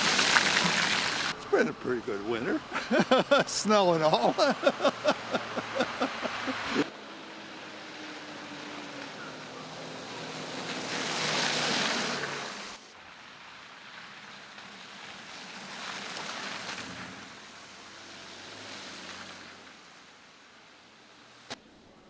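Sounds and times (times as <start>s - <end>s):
vehicles passing on slush: 0.0s - 22.0s.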